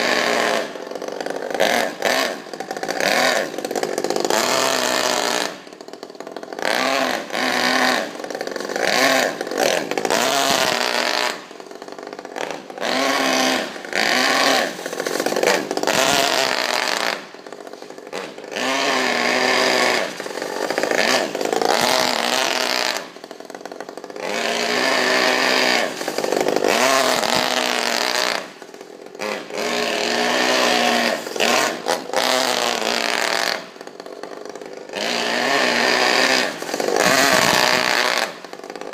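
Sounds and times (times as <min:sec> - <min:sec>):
rc car engine revving: 0:00.0 - 0:38.9.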